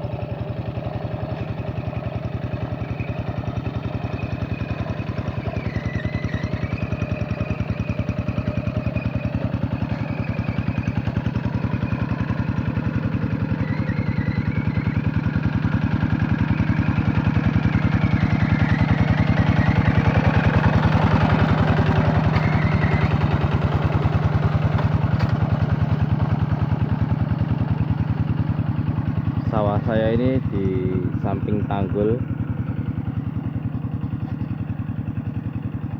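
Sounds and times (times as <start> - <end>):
diesel tractor engine running: 0.0 - 35.9.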